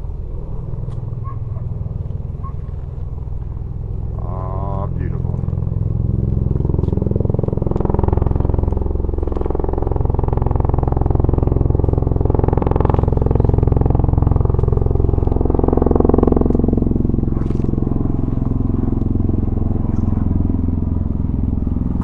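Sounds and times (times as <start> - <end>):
tiltrotor aircraft drone: 0.0 - 22.0.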